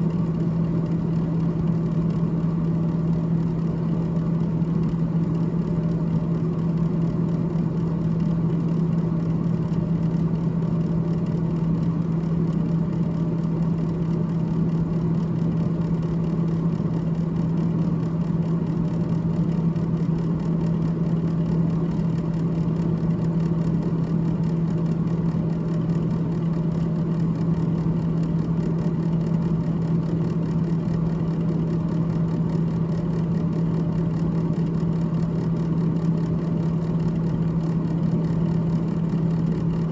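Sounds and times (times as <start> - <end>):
refrigerator fan humming: 0.0 - 39.9.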